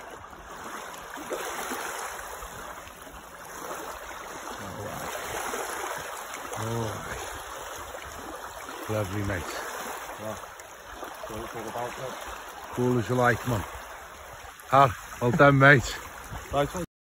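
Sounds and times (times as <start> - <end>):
water sloshing around fish: 0.0 - 16.8
water lapping on stony shore: 0.0 - 16.9.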